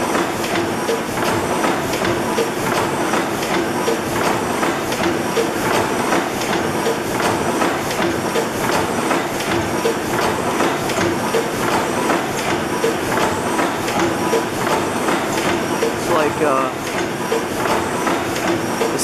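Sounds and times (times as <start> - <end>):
gas engine clattering: 0.0 - 19.0.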